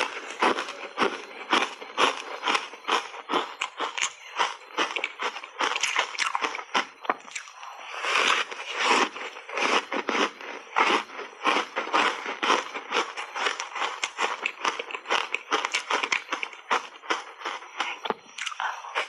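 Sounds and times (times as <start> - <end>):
ice crunching being chewed: 0.0 - 19.0.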